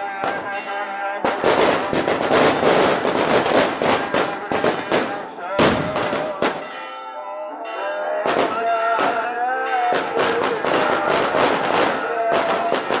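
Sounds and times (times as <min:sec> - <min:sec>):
firecrackers banging: 0:00.2 - 0:00.6, 0:01.2 - 0:06.8, 0:08.2 - 0:13.0.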